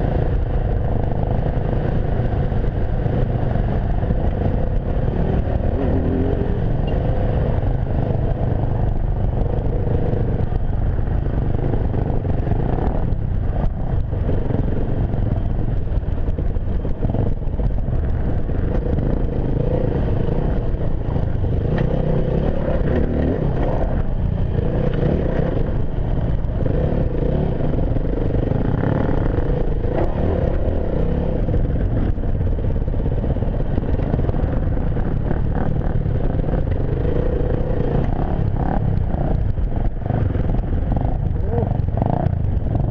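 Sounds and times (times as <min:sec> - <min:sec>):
motorcycle engine revving: 0:00.0 - 0:42.9
motorcycle rattling: 0:00.0 - 0:42.9.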